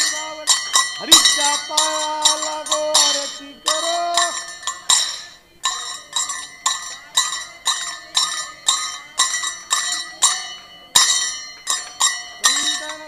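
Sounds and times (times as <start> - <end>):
hand bell ringing: 0.0 - 13.0.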